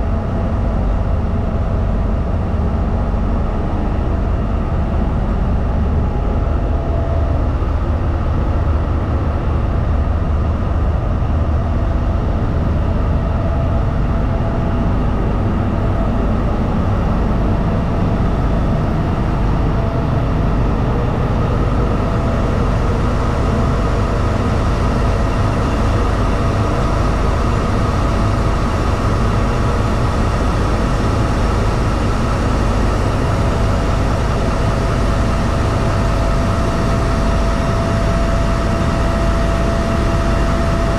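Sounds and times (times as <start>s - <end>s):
faint steady whine: 0.0s - 40.9s
deep diesel engine rumble: 3.5s - 40.9s.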